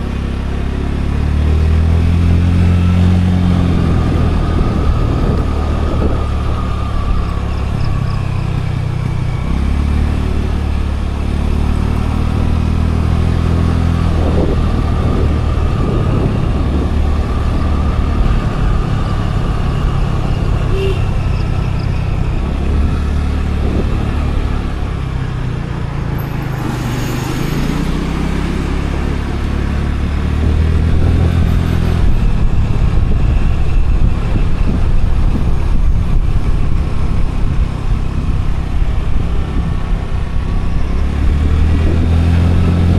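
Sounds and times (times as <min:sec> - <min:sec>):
road and wind noise: 0:00.0 - 0:42.9
scooter engine running: 0:00.0 - 0:42.9
wind rumble on microphone: 0:01.0 - 0:42.9.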